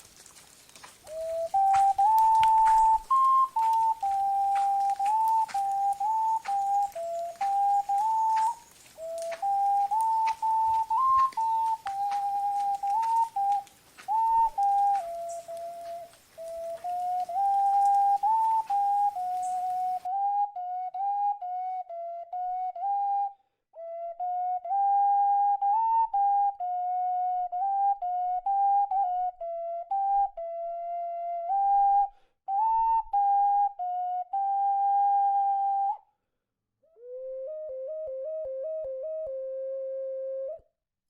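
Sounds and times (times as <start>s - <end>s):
flute-like solo melody: 1.1s - 36.1s, 37.0s - 40.7s.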